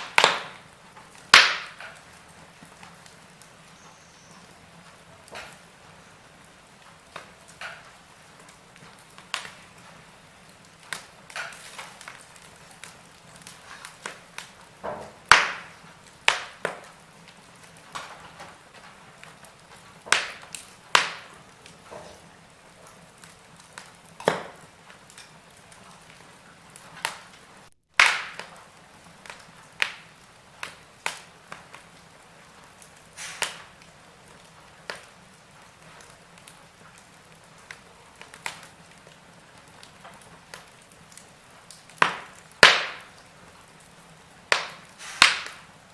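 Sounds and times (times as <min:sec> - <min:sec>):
faint steady hiss: 0:00.0 - 0:45.9
wood fire crackling: 0:00.0 - 0:45.9.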